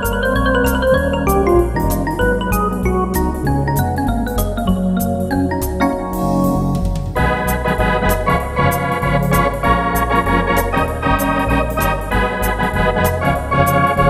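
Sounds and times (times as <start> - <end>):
electronic organ chords: 0.0 - 14.0
pedal bass line: 0.0 - 14.0.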